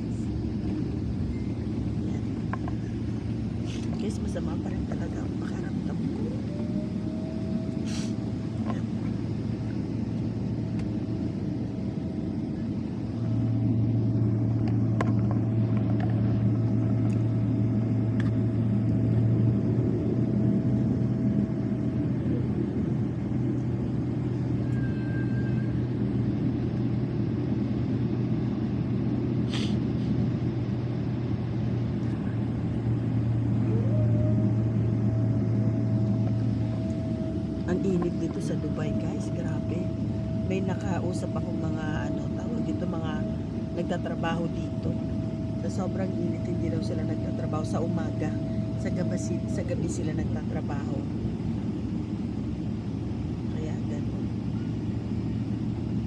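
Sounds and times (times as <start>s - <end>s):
airliner cabin hum: 0.0s - 56.0s.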